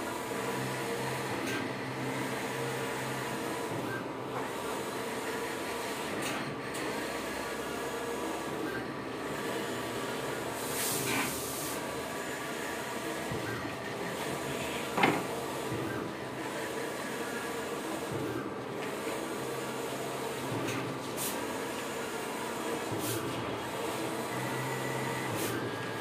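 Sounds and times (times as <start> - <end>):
printer mechanical whir: 0.0 - 26.0.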